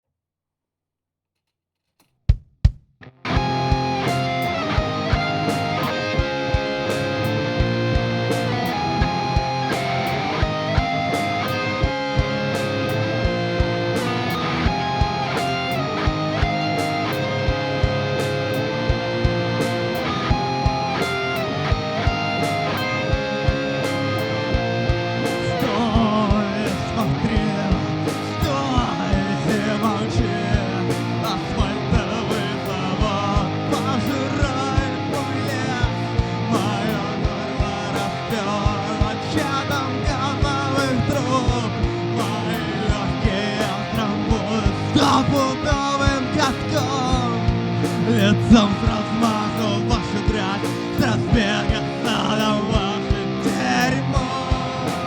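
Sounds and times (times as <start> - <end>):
steady drum beat: 2.3 - 55.0
punk rock guitars: 3.0 - 55.0.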